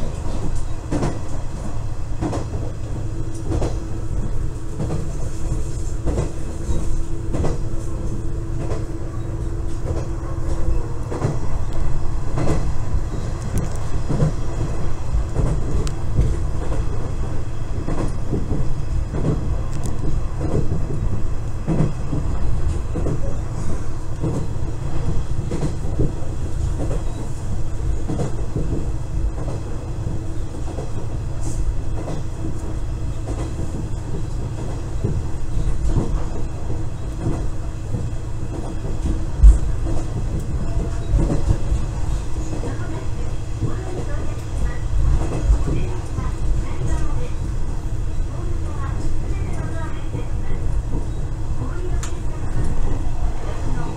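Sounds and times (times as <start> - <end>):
diesel railcar rumble: 0.0 - 53.9.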